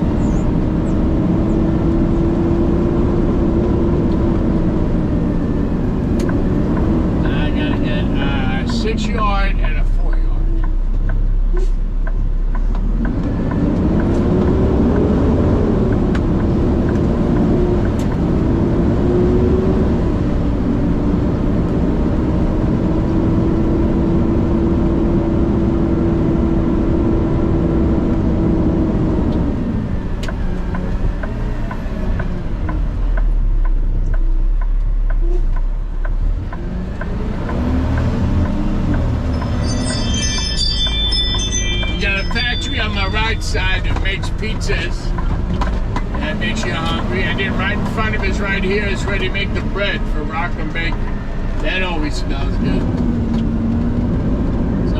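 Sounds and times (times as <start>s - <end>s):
diesel truck engine under load: 0.0s - 54.9s.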